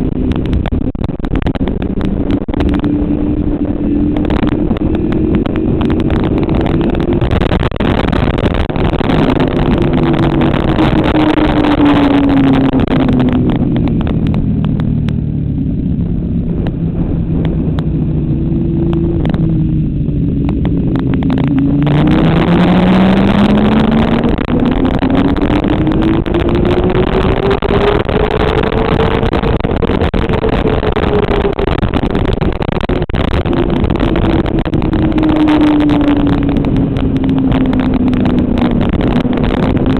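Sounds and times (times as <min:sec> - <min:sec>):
heavy wind noise: 0:00.0 - 0:39.9
motorcycle engine at speed: 0:00.0 - 0:39.9.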